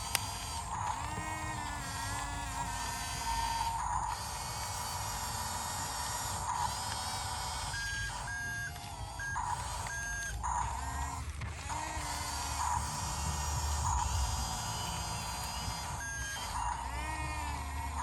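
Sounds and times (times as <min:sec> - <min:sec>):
hydraulic whine rising and falling: 0:00.0 - 0:18.0.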